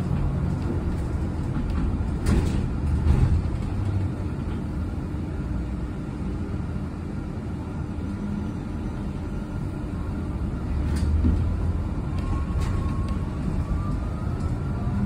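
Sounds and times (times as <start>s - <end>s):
bus tyres rumbling on road: 0.0s - 15.0s.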